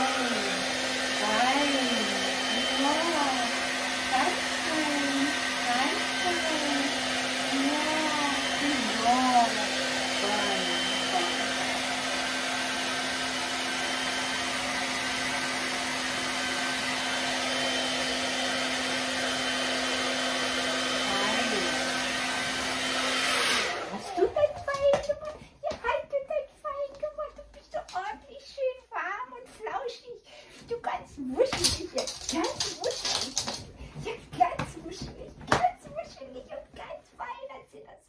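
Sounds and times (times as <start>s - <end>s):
hair dryer running: 0.0s - 26.0s, 31.4s - 36.4s.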